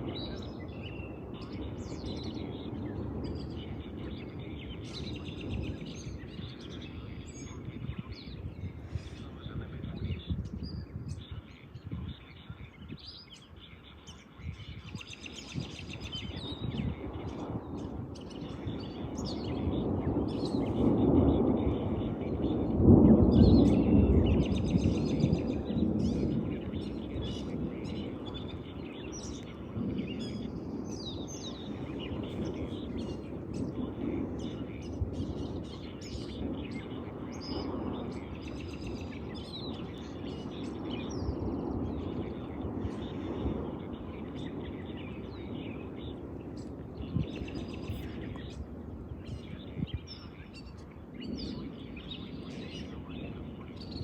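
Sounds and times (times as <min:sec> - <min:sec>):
birds chirping: 0:00.0 - 0:54.0
thunder rumble: 0:00.0 - 0:54.0.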